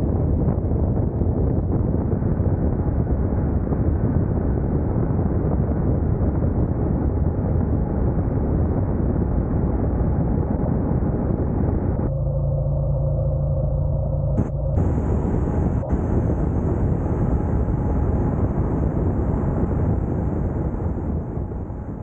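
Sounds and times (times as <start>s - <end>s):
wind rush on microphone: 0.0s - 12.1s, 14.3s - 22.0s
steady low hum: 0.0s - 22.0s.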